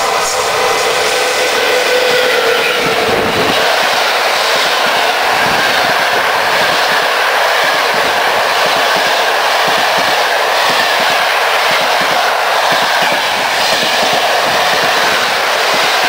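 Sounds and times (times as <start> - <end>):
train wheels rushing on rails: 0.0 - 16.0.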